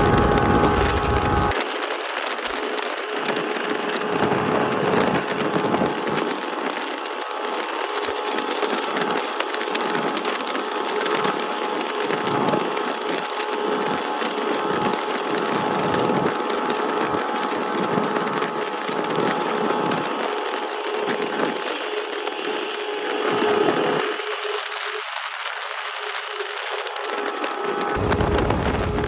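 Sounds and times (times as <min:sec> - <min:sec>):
wind and water rushing: 0:00.0 - 0:29.0.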